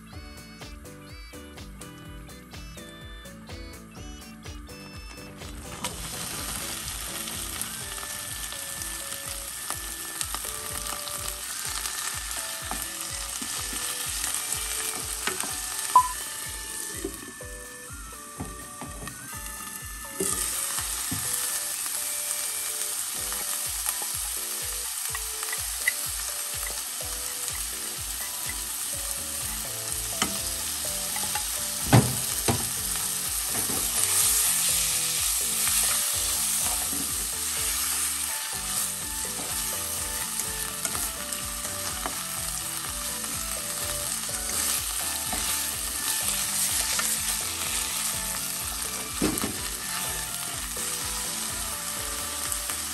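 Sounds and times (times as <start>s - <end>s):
vegetables sizzling in a frying pan: 5.4s - 52.9s.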